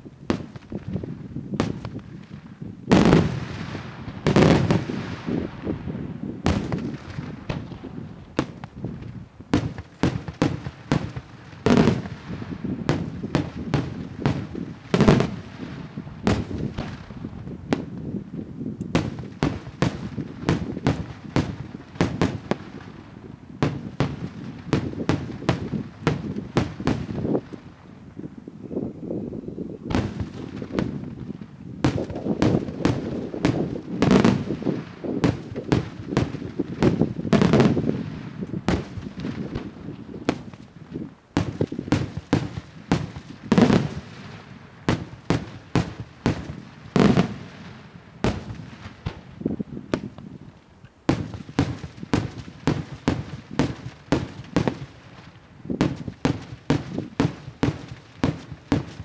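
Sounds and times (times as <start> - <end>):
fireworks bangs: 0.3 - 18.2, 18.9 - 27.7, 29.9 - 50.4, 51.0 - 59.0.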